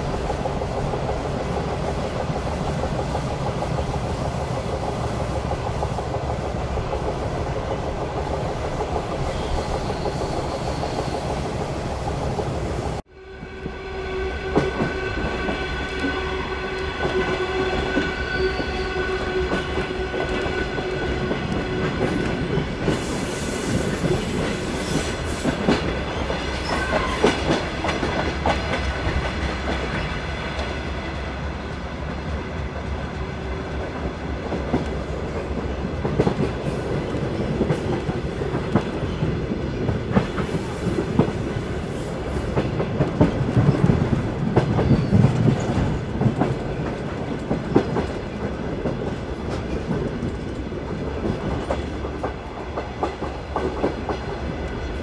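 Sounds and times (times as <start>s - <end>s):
wheels clickety-clack over rail joints: 0.0s - 13.0s, 19.1s - 55.0s
train rumbling on rails: 0.0s - 55.0s.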